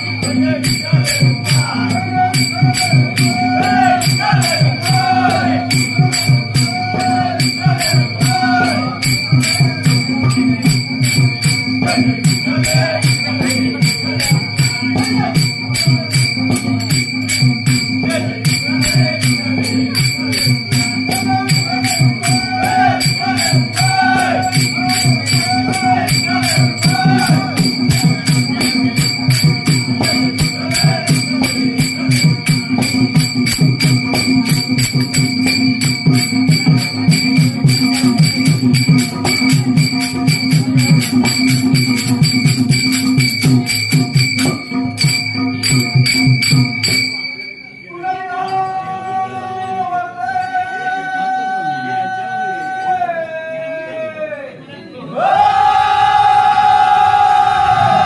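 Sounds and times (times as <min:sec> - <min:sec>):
hand drum: 0:00.0 - 0:47.2
hand cymbals clashing: 0:00.0 - 0:49.2.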